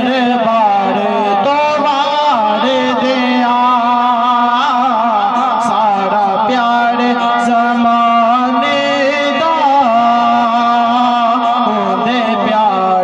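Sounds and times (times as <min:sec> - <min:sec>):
man singing through loudspeaker: 0:00.0 - 0:13.0.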